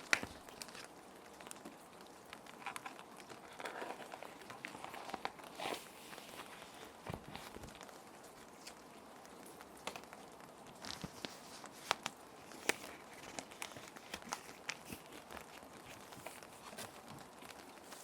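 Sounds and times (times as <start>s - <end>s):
plastic sheet protectors crinkling: 0.0s - 18.0s
rain hiss: 0.0s - 18.0s.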